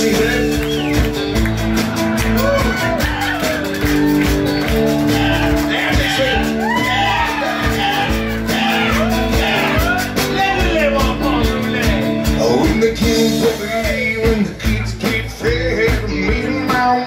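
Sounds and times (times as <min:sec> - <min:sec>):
country-rock band playing: 0:00.0 - 0:17.0.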